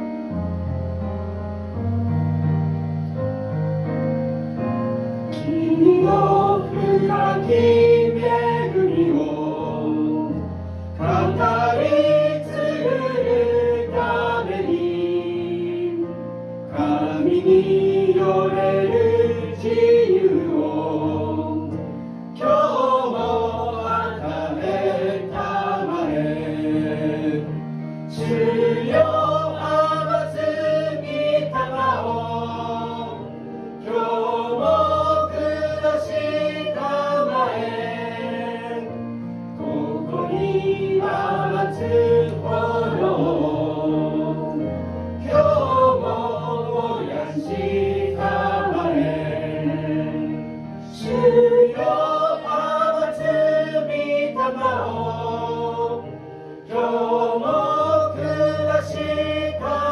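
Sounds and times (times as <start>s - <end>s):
instrumental accompaniment: 0.0s - 59.9s.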